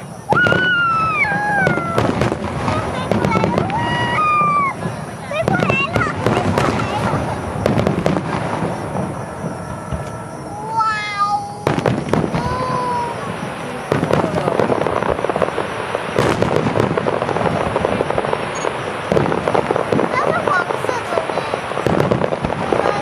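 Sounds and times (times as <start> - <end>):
firework shells bursting: 0.0 - 23.0
fireworks crackling: 0.0 - 23.0.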